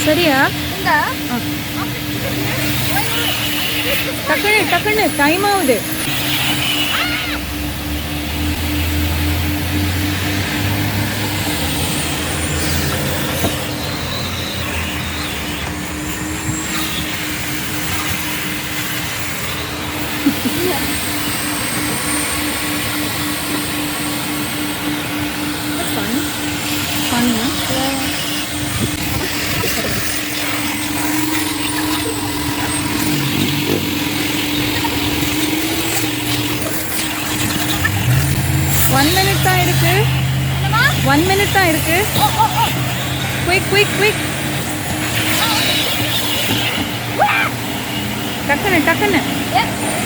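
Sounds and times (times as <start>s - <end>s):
vacuum cleaner hum and suction: 0.0s - 50.0s.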